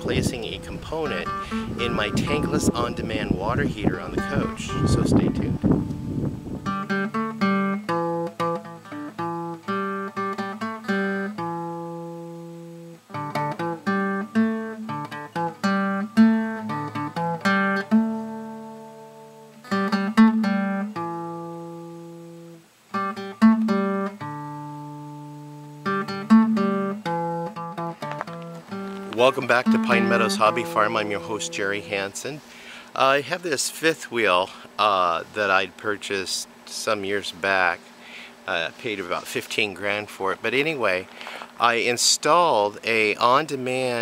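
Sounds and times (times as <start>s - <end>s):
acoustic guitar plucking: 0.0s - 44.0s.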